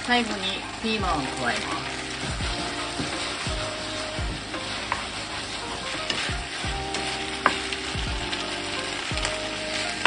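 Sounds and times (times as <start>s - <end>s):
food sizzling in a frying pan: 0.0s - 10.0s
wooden spatula scraping a pan: 0.4s - 10.0s.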